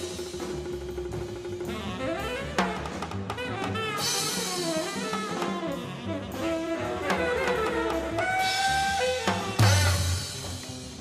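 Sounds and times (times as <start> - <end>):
drum kit: 0.0 - 11.0
horn melody: 1.6 - 10.8.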